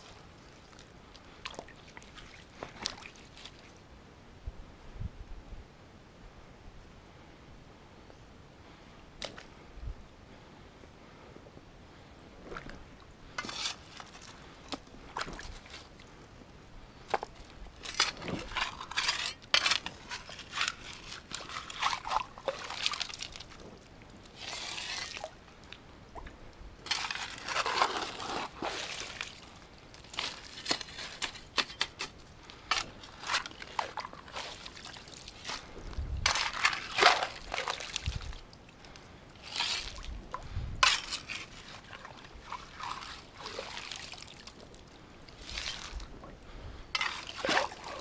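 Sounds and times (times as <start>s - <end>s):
water splashing and sloshing: 0.0s - 3.8s, 12.4s - 16.2s, 17.0s - 48.0s.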